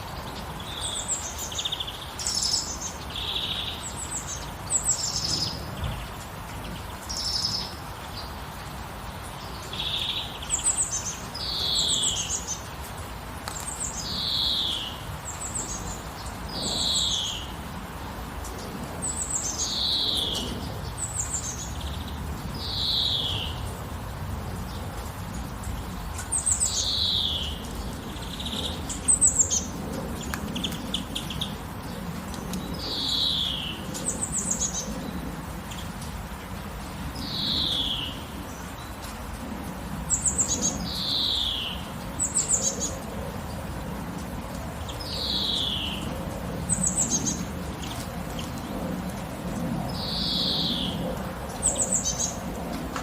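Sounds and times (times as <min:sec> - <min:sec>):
light rain hissing: 0:00.0 - 0:53.0
songbirds calling: 0:00.0 - 0:53.0.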